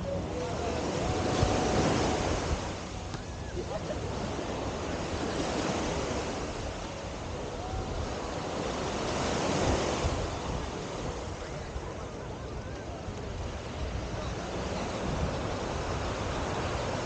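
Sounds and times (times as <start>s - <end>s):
ocean surf washing ashore: 0.0s - 17.0s
wind buffeting microphone: 0.0s - 17.0s.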